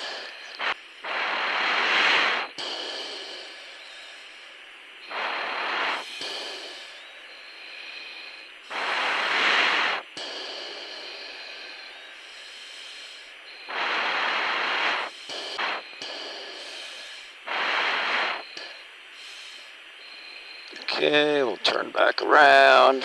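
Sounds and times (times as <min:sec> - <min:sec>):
hissing breaths through oxygen mask: 0:00.0 - 0:23.0
steady cockpit hiss: 0:00.0 - 0:23.0.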